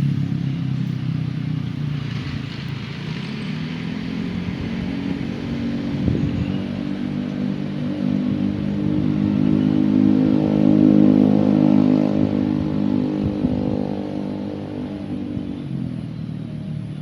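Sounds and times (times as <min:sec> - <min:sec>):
vehicle driving past: 0:00.0 - 0:17.0.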